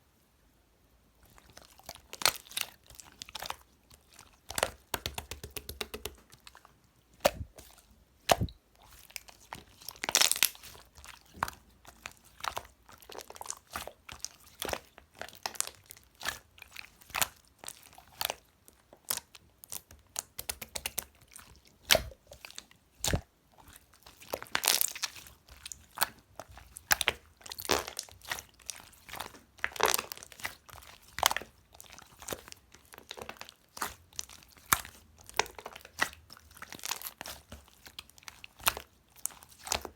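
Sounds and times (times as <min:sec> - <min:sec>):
slime crackling and popping: 0:07.2 - 0:07.7, 0:08.3 - 0:39.9.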